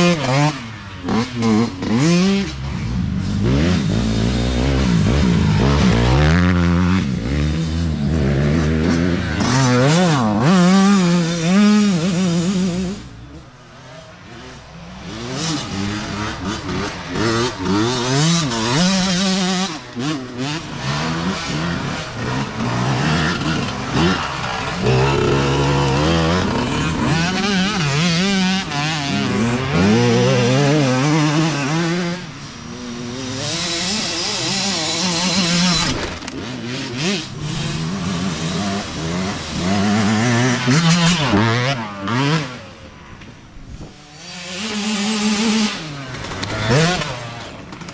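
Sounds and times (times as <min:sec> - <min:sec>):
dirt bike engines revving past: 0:00.0 - 0:47.9.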